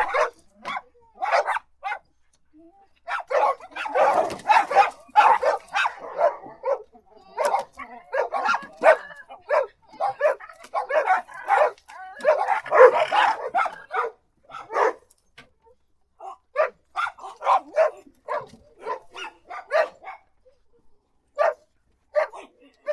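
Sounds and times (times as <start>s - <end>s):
dogs barking: 0.0s - 2.1s, 3.1s - 15.0s, 16.2s - 20.4s, 21.4s - 22.9s.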